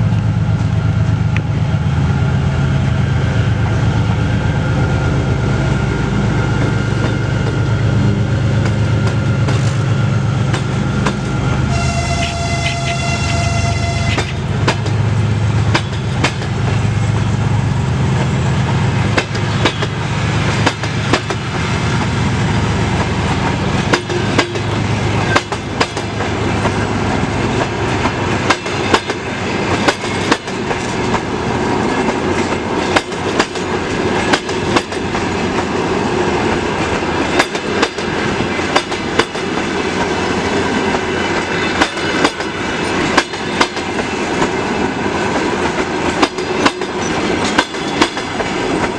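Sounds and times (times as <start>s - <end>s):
diesel locomotive engine hum: 0.0s - 48.9s
train wheels clicking over rail joints: 6.3s - 11.6s, 14.0s - 48.9s.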